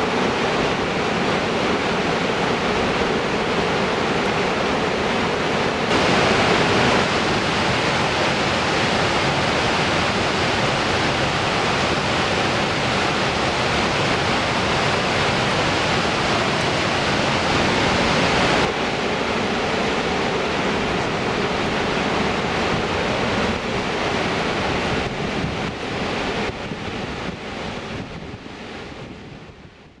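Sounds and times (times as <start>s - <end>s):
waterfall rushing: 0.0s - 29.2s.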